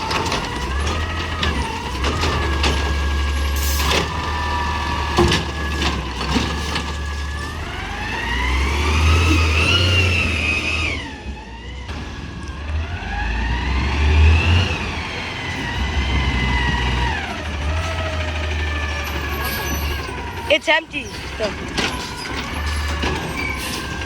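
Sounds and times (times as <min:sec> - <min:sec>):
garbage truck engine revving: 0:00.0 - 0:24.0.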